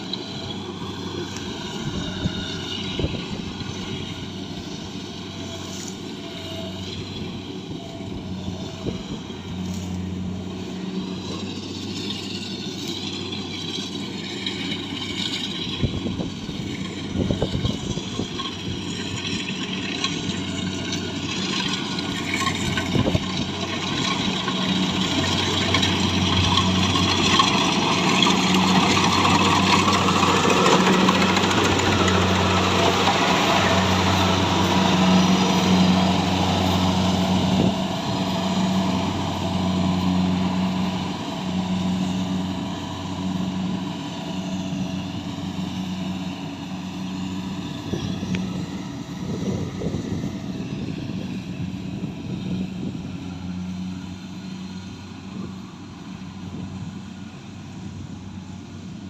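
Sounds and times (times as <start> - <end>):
harvesting machine engine humming: 0.0 - 59.0.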